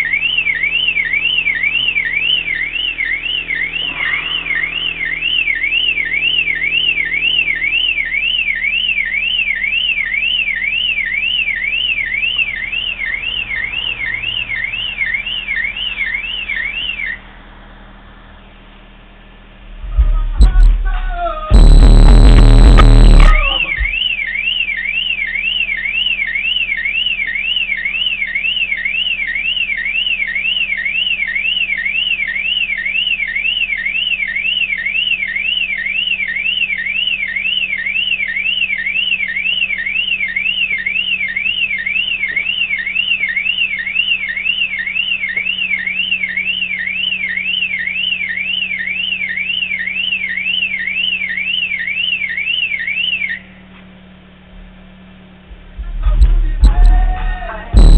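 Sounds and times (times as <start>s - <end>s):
car alarm siren: 0.0s - 17.3s, 20.0s - 53.7s, 56.2s - 57.9s.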